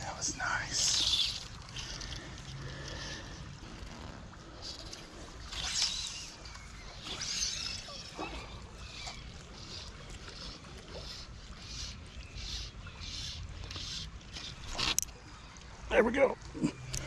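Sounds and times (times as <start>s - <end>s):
fly line swishing through guides: 0.0s - 15.3s.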